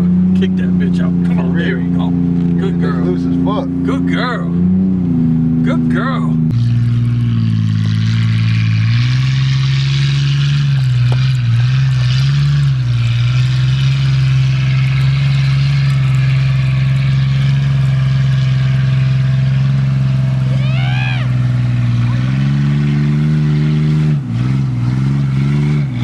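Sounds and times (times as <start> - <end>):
vehicle engine revving hard: 0.0 - 26.0.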